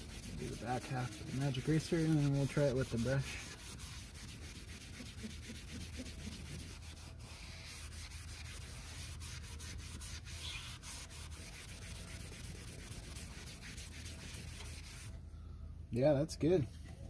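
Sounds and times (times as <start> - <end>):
foam eraser scrubbing vinyl: 0.0 - 15.2
steady low hum: 0.0 - 17.0.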